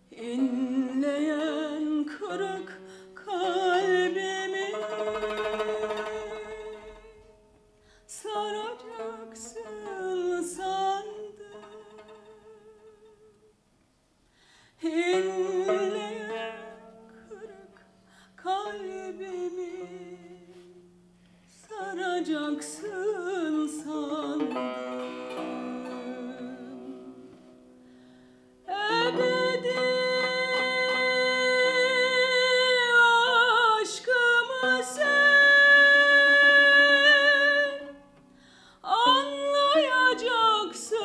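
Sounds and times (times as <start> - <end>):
woman singing with vibrato: 0.0 - 7.5, 8.1 - 13.6, 14.8 - 27.6, 28.6 - 38.2, 38.8 - 41.0
plucked lute: 0.0 - 13.5, 14.8 - 41.0.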